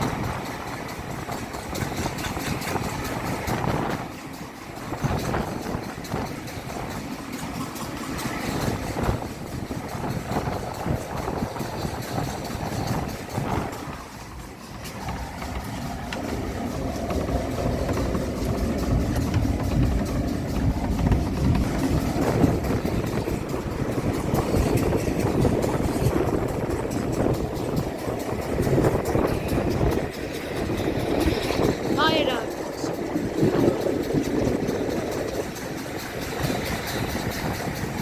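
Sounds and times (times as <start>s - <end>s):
train rumbling and rattling: 0.0s - 38.0s.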